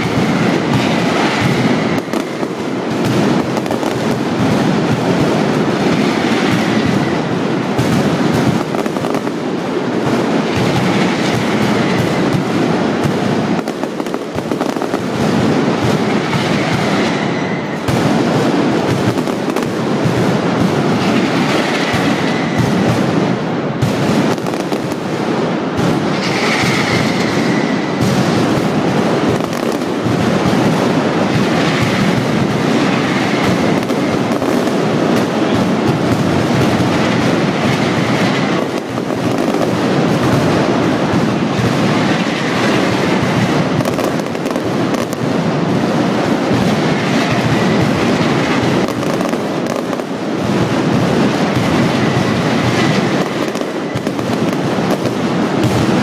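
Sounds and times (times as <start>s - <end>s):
firecracker barrage: 0.0s - 56.0s.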